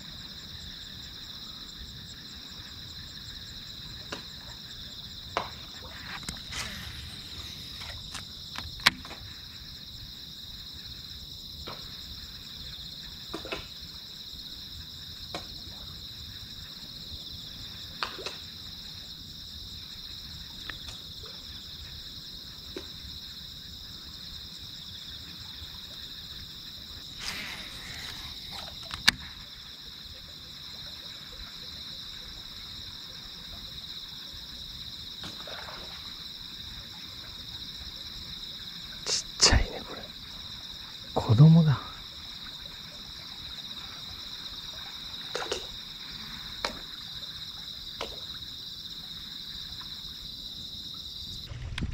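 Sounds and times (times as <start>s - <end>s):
insect chirring: 0.0s - 51.9s.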